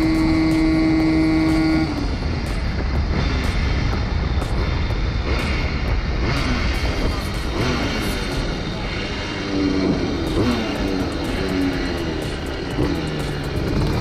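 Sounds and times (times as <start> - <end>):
moped engine high-pitched drone: 0.0 - 14.0
rushing noise: 0.0 - 14.0.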